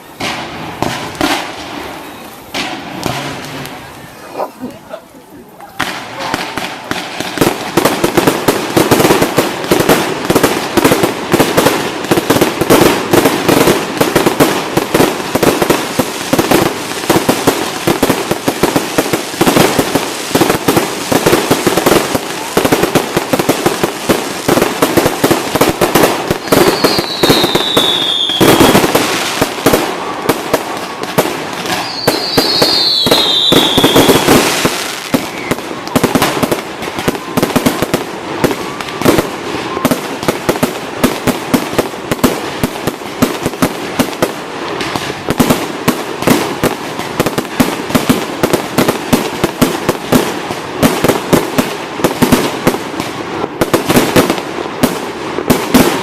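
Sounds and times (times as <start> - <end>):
whistling fireworks falling in pitch: 0.0 - 4.5, 5.4 - 56.0
fireworks bangs and crackles: 0.0 - 56.0.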